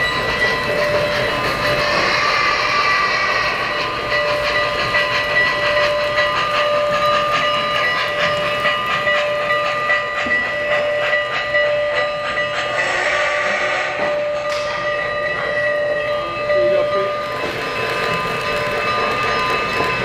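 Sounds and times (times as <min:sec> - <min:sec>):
model train wheels clattering: 0:00.0 - 0:13.7, 0:17.1 - 0:20.0
steady whistle-like tone: 0:00.0 - 0:20.0.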